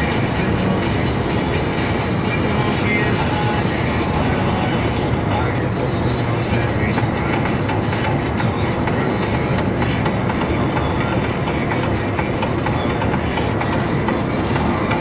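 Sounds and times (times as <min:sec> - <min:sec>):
cab rattles and clicks: 0:00.0 - 0:15.0
engine and tyres droning: 0:00.0 - 0:15.0.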